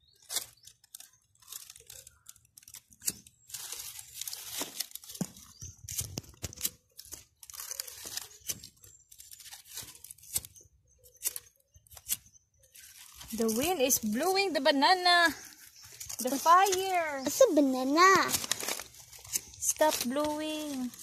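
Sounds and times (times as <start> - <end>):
dry leaves and twigs crackling: 0.0 - 21.0
twigs snapping: 0.1 - 14.4, 15.3 - 21.0.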